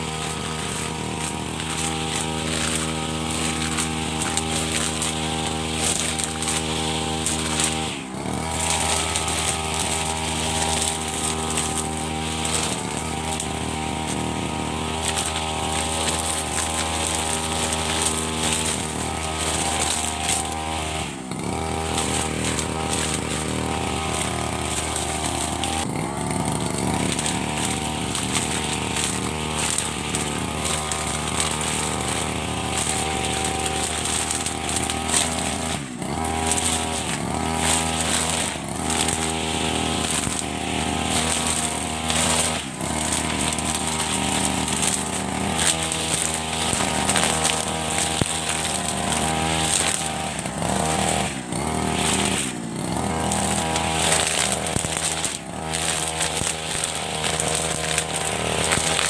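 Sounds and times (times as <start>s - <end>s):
brush cutter cutting grass: 0.0s - 59.0s.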